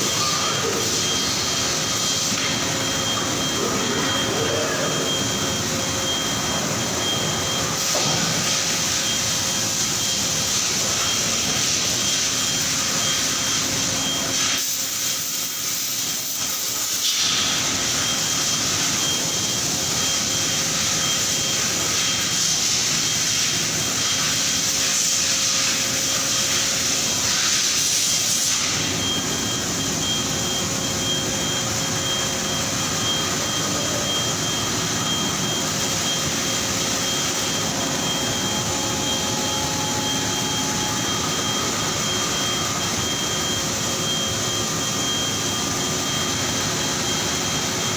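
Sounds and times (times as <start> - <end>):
factory machinery hissing and whirring: 0.0 - 47.9
steady machine tones: 0.0 - 47.9.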